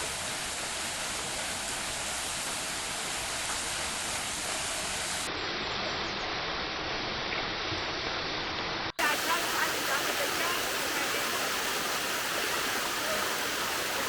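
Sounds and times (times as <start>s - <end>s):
rushing mountain water: 0.0s - 14.0s.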